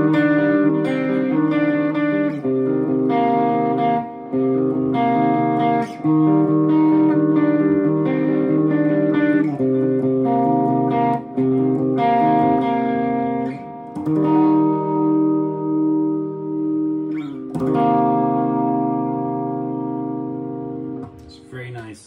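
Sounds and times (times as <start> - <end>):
electric guitar chord riff: 0.0 - 22.0.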